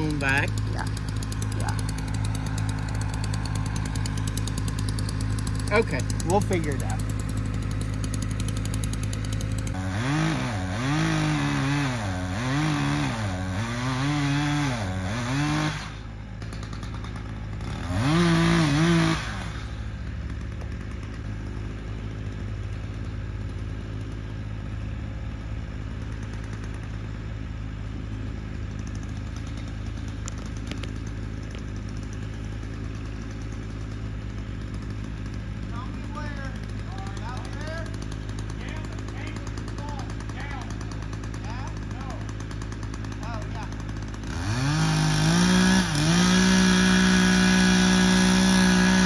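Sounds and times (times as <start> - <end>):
chainsaw revving: 0.0 - 49.0
skid steer engine idling: 0.0 - 49.0.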